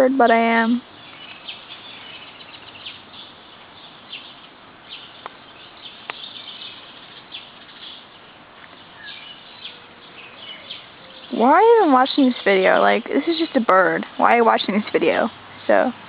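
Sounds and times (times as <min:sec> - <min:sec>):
small birds chirping: 0:00.0 - 0:16.0
steady outdoor hiss: 0:00.0 - 0:16.0.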